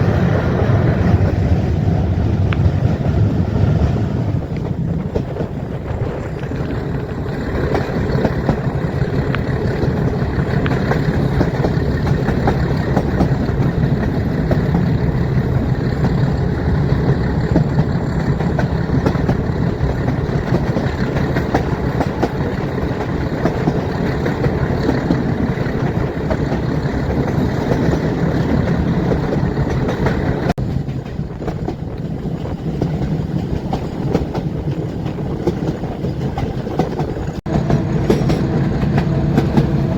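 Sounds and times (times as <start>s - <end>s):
train wheels on rails: 0.0s - 39.9s
rail-joint clatter: 2.3s - 39.9s.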